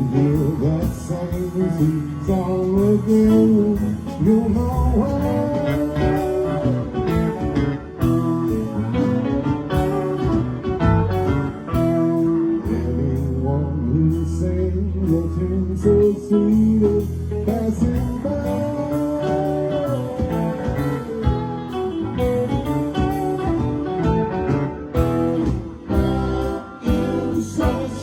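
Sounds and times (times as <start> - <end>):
bass: 0.0 - 28.0
drums: 0.0 - 28.0
guitar: 0.0 - 28.0.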